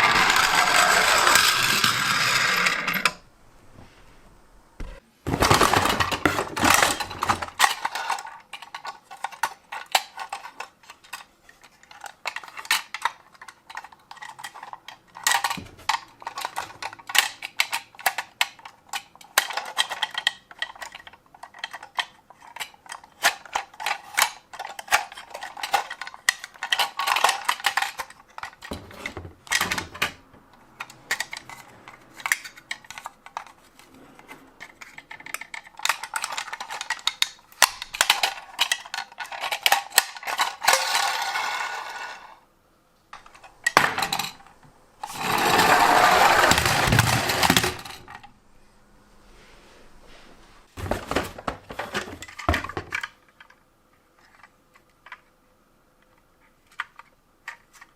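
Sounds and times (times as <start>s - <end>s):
toy vehicles clattering: 0.0s - 3.2s, 5.3s - 42.4s, 43.2s - 48.4s, 50.8s - 55.3s.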